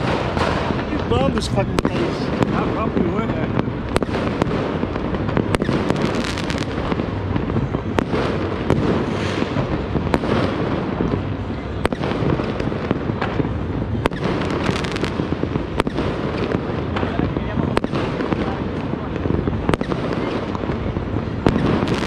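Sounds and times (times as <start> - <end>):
fireworks crackling: 0.0 - 22.0
sharp firecracker pops: 0.0 - 22.0.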